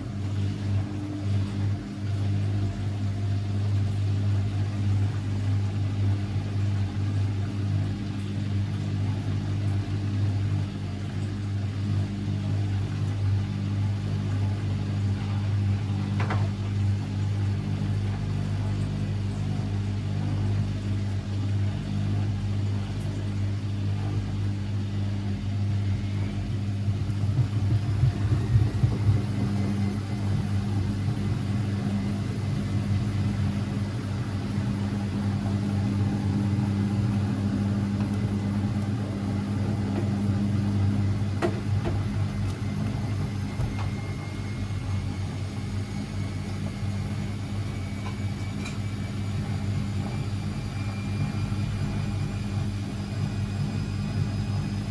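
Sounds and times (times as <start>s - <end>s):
washing machine motor hum: 0.0s - 54.9s.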